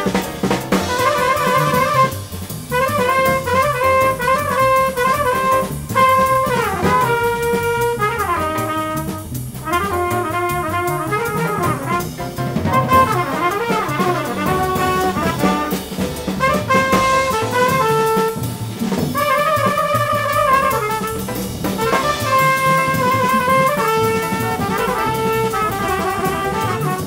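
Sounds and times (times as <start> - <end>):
jazz rhythm section: 0.0 - 27.0
trumpet jazz solo: 0.0 - 27.0.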